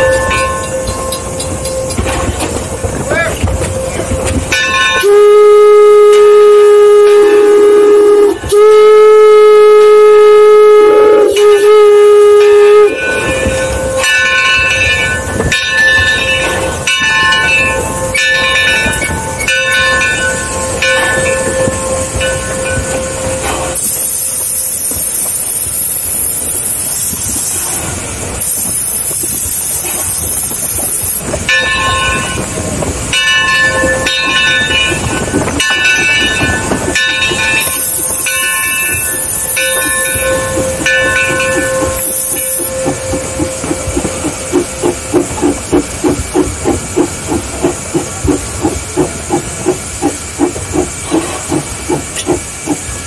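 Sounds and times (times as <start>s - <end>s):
steam hissing: 0.0s - 53.0s
steam locomotive exhaust chuffing: 0.0s - 53.0s.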